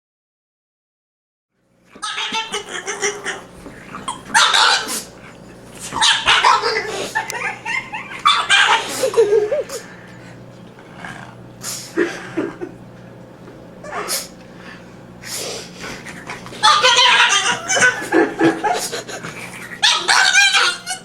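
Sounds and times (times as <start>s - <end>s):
dog whining: 1.9s - 13.0s, 13.8s - 14.8s, 15.4s - 21.0s
dog barking bursts: 1.9s - 13.2s, 15.2s - 21.0s.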